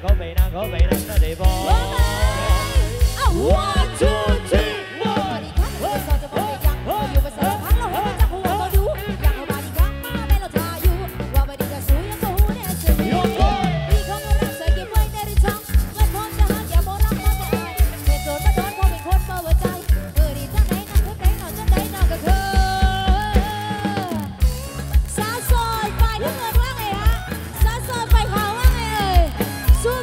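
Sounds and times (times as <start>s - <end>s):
electric guitar: 0.0s - 30.0s
live band music: 0.0s - 30.0s.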